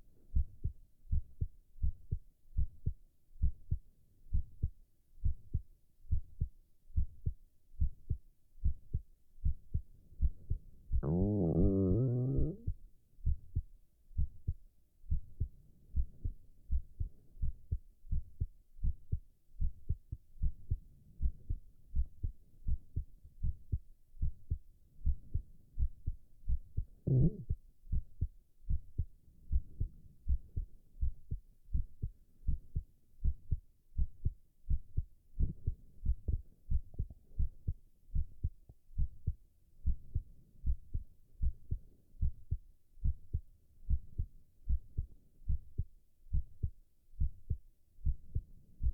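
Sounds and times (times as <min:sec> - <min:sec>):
heartbeat thumps: 0:00.4 - 0:48.9.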